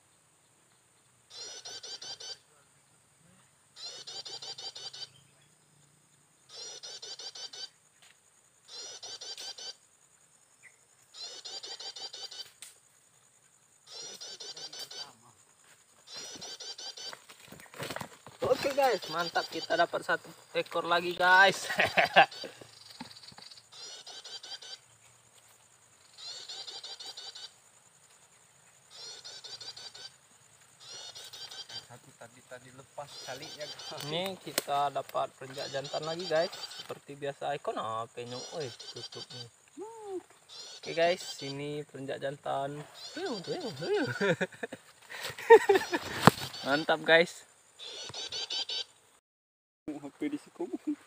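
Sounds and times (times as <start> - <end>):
bird song of rapid sharp notes: 0.0 - 2.5, 3.4 - 9.8, 10.4 - 15.4, 16.0 - 30.2, 30.8 - 44.4, 45.5 - 49.0.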